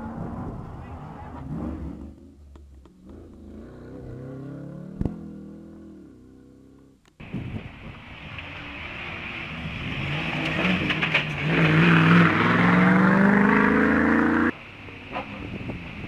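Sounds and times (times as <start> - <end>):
off-road vehicle engine revving: 0.0 - 7.0, 8.4 - 16.0.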